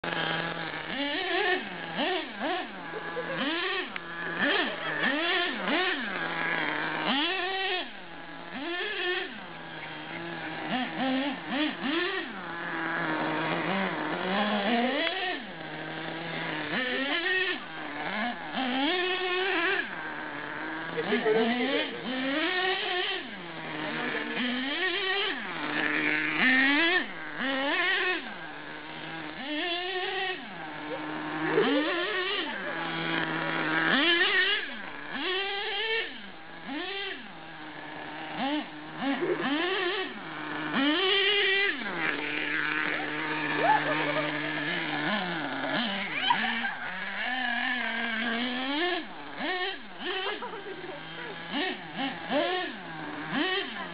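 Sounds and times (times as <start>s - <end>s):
small two-stroke engine revving: 0.0s - 53.9s.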